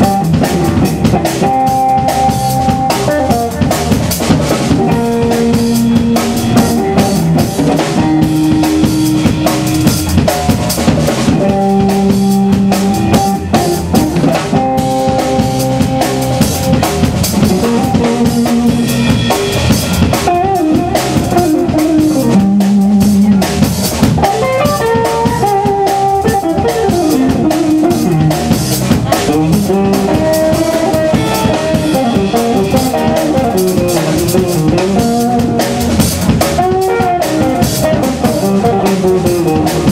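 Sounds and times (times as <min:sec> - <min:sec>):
drum rimshots: 0:00.0 - 0:39.9
live blues band: 0:00.0 - 0:39.9.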